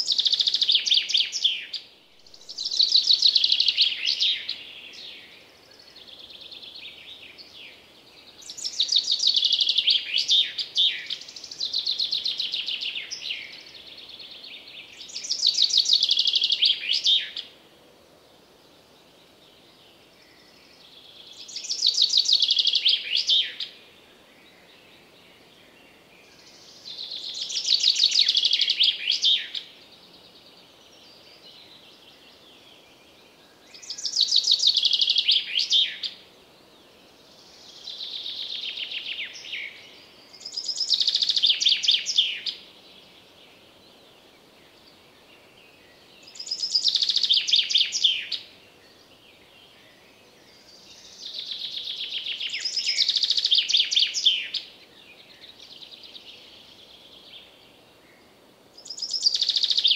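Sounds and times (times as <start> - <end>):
bird song trills: 0.0 - 17.6, 19.4 - 59.9
faint steady hiss: 0.0 - 59.9.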